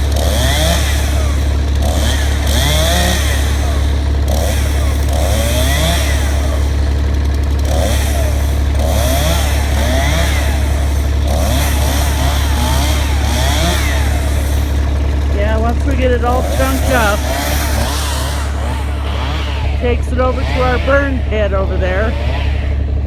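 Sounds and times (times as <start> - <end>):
chainsaw cutting wood: 0.0 - 23.0
steady low hum: 0.0 - 23.0.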